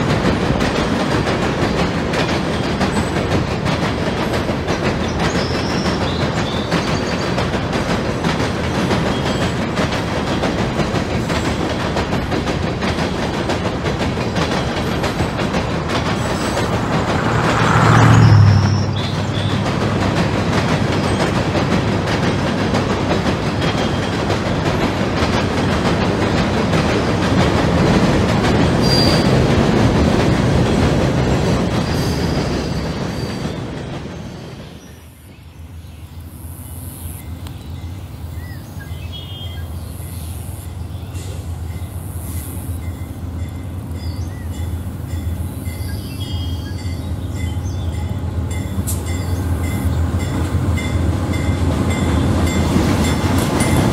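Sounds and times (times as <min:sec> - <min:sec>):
diesel locomotive engine rumble: 0:00.0 - 0:53.9.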